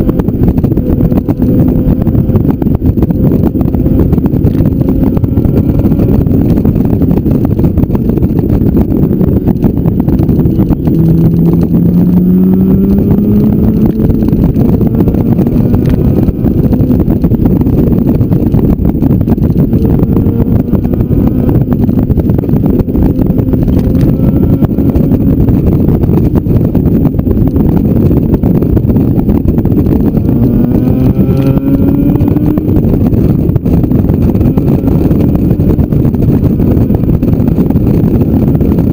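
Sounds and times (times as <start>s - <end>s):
motorcycle engine: 0.0s - 38.9s
wind rush on microphone: 0.0s - 38.9s.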